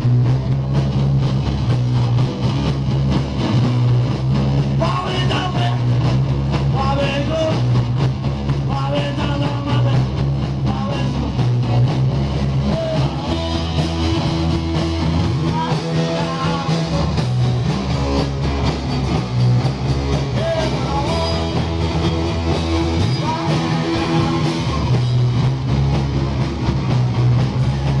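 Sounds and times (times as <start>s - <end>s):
punk rock band playing: 0.0s - 28.0s.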